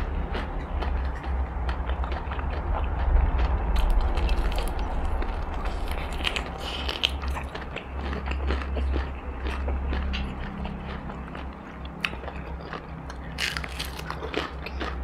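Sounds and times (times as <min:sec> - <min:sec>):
crunchy bites and chewing: 0:00.0 - 0:15.0
low hum: 0:00.0 - 0:15.0.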